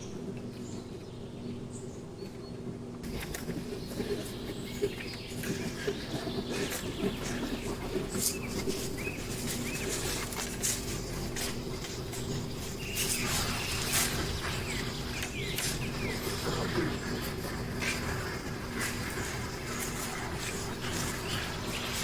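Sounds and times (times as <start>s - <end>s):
faint steady hum: 0.0s - 22.0s
small birds chirping: 0.0s - 22.0s.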